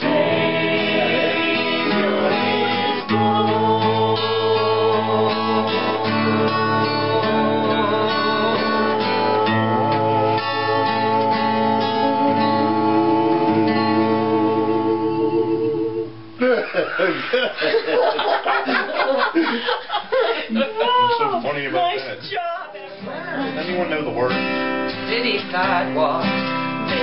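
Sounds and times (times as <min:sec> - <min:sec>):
acoustic guitar strumming: 0:00.0 - 0:17.2, 0:21.1 - 0:27.0.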